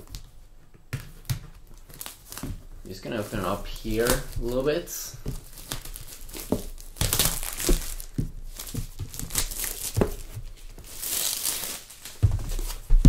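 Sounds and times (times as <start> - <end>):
cardboard crinkling and rustling: 1.0 - 13.0
cardboard tearing: 1.8 - 13.0.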